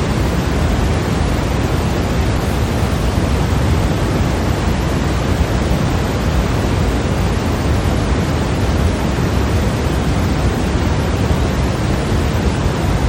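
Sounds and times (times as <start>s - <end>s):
steady white noise hiss: 0.0s - 13.0s.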